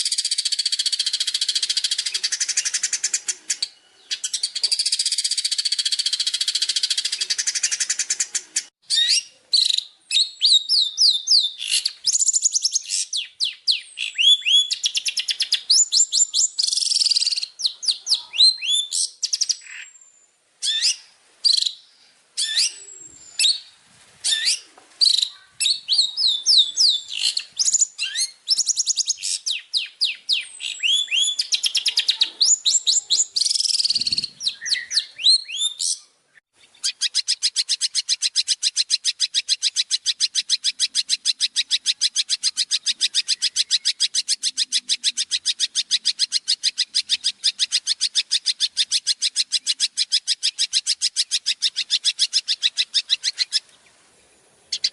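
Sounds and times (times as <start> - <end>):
songbird whistles and chirps: 0.0 - 54.0.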